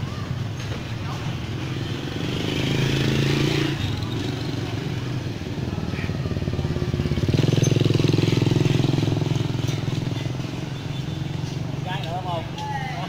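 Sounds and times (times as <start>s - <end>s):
motorcycle engine running: 1.1s - 11.8s.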